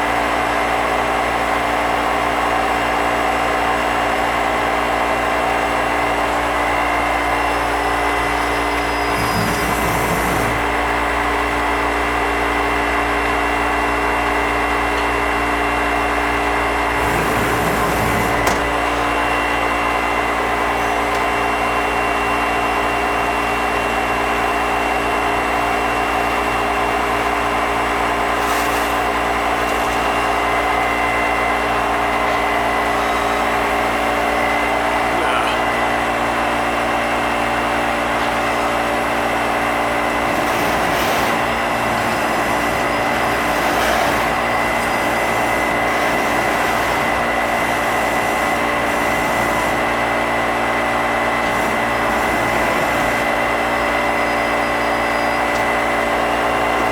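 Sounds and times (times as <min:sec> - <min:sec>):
lathe machine humming: 0:00.0 - 0:56.9.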